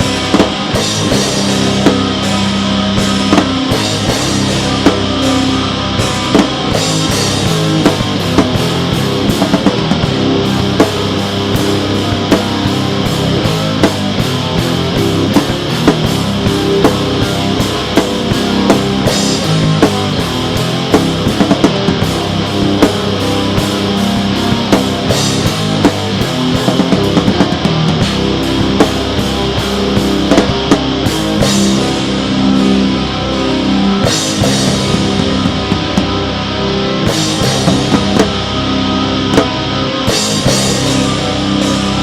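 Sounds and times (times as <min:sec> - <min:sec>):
distorted electric guitar: 0:00.0 - 0:42.0
drum kit beat: 0:00.0 - 0:42.0.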